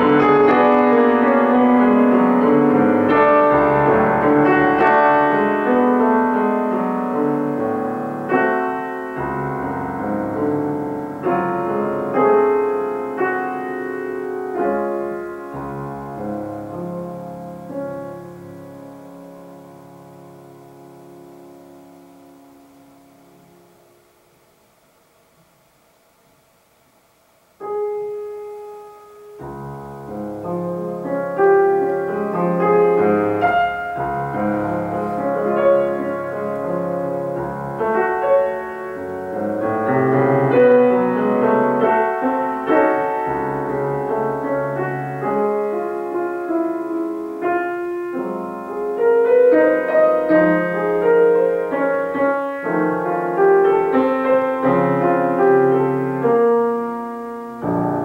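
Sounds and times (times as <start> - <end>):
solo grand piano: 0.0 - 58.0.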